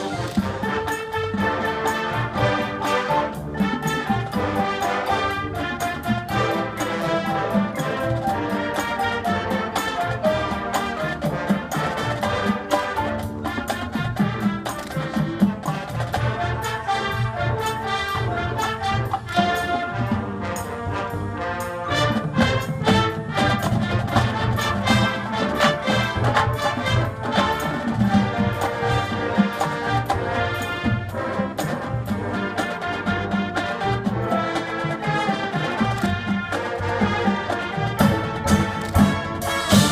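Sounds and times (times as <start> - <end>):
brass instruments playing: 0.0 - 39.9
drums beating: 0.0 - 39.9.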